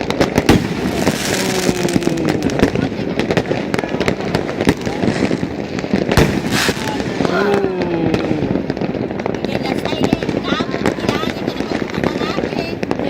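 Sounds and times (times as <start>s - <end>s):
firecracker crackle: 0.0s - 13.0s
firework bangs and cracks: 0.0s - 13.0s.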